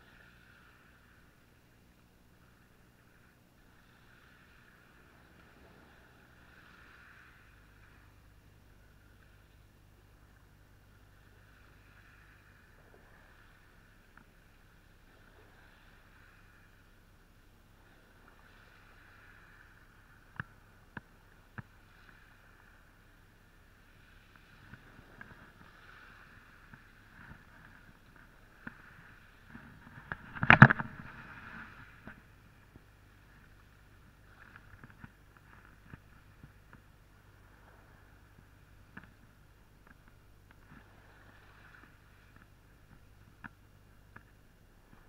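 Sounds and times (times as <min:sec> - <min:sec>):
faint steady hiss: 0:00.0 - 0:45.0.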